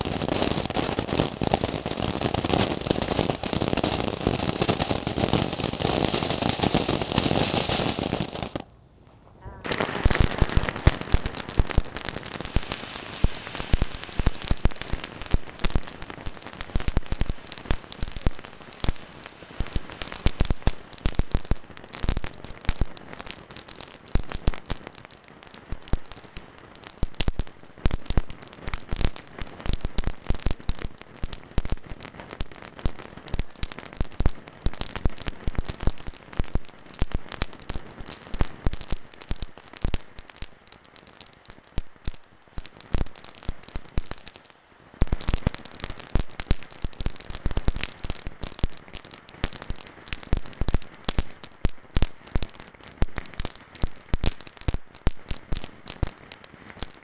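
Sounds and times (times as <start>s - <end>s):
fireworks crackling and popping: 0.0s - 57.0s.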